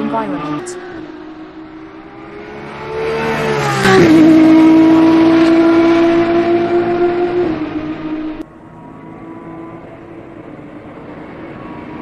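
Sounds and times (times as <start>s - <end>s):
engine at high revs: 0.0s - 12.0s.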